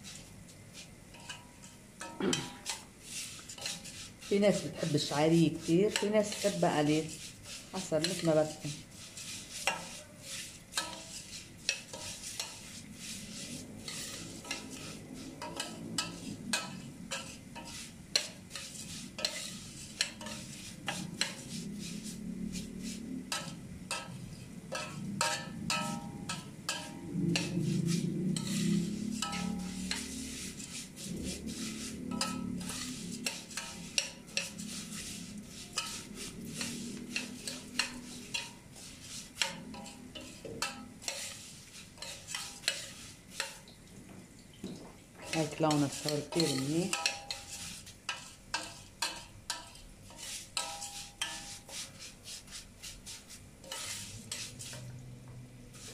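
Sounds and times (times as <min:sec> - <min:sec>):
metal spoon scraping a pot: 0:00.0 - 0:43.7, 0:45.2 - 0:55.1
light frying sizzle: 0:00.0 - 0:55.9.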